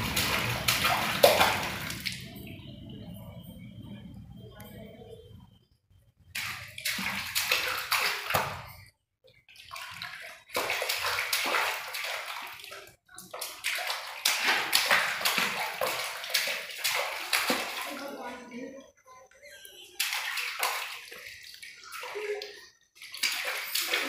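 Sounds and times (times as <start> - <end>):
water splashing in plastic basin: 0.0 - 2.7, 6.3 - 18.8, 19.8 - 24.0.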